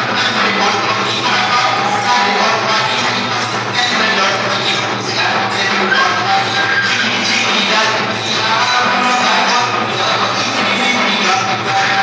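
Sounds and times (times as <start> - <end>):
folk dance music: 0.0 - 12.0.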